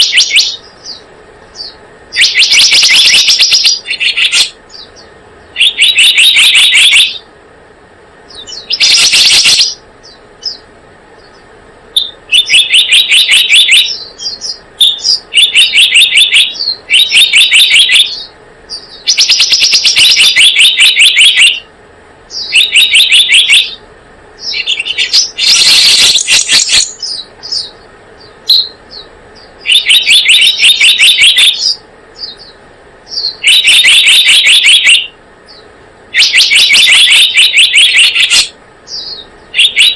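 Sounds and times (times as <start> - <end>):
rapid bird chirping: 0.0 - 39.9.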